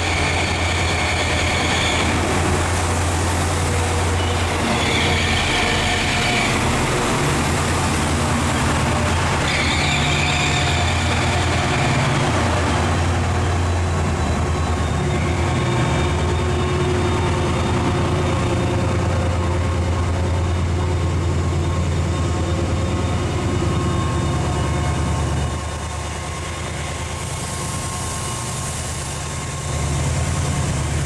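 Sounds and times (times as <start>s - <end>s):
high-pitched train squeals: 0.0s - 31.0s
train engine hum: 0.0s - 31.0s.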